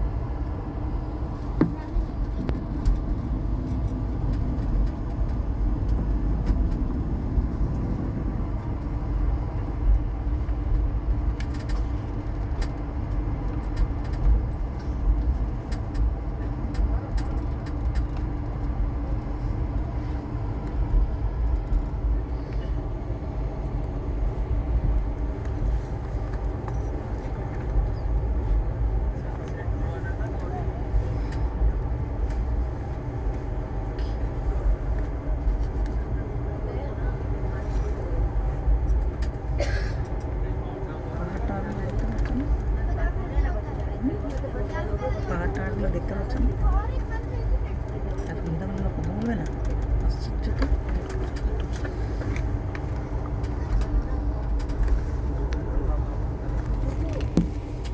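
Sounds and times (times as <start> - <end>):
train rumbling on the line: 0.0 - 57.9.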